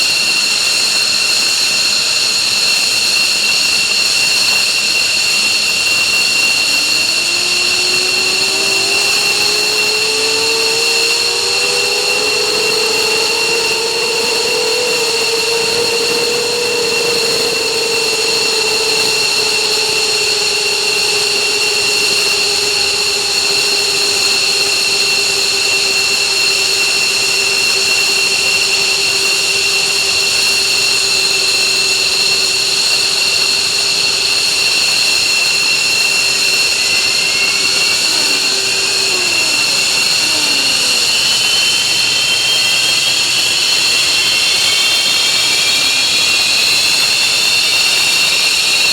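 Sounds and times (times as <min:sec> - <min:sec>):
jet engine spooling up: 0:00.0 - 0:48.9
jet engines whining: 0:00.0 - 0:48.9.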